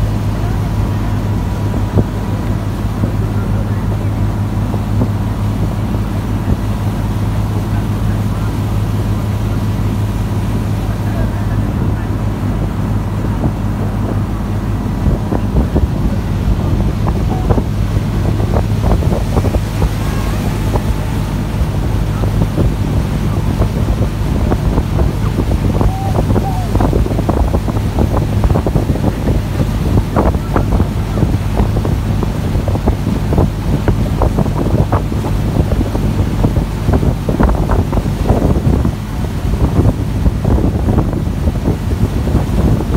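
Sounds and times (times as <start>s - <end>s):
boat engine humming: 0.0s - 42.9s
water crackling against hull: 0.0s - 42.9s
wind buffeting microphone: 0.0s - 42.9s.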